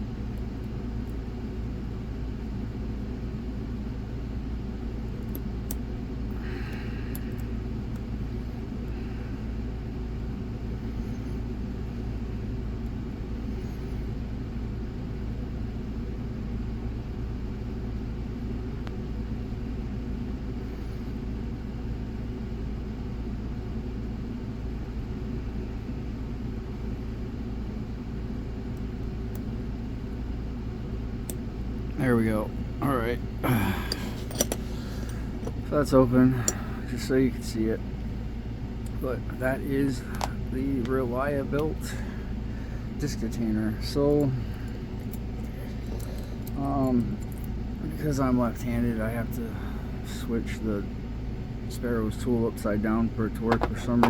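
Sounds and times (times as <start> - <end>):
low hum and rumble: 0.0 - 54.0.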